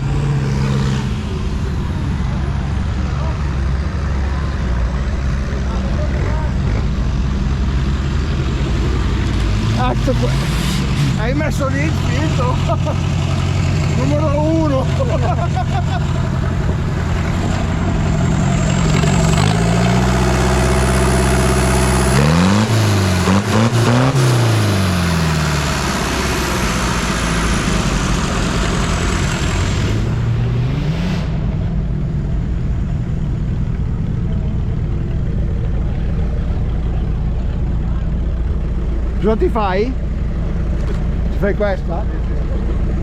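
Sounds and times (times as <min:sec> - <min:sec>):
engine revving under load: 0:00.0 - 0:43.0.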